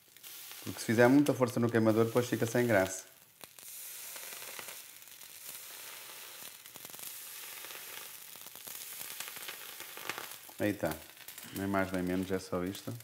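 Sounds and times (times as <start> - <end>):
sugar sizzling and crackling: 0.0 - 13.0.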